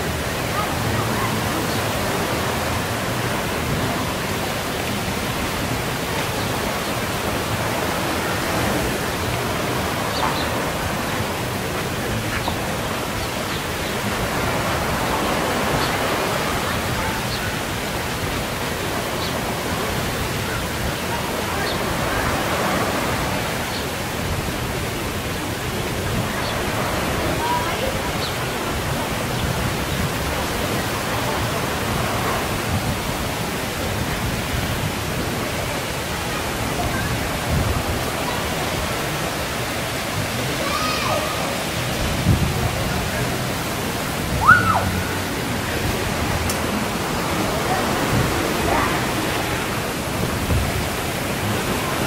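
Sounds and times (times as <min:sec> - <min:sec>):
even rushing noise: 0:00.0 - 0:52.0.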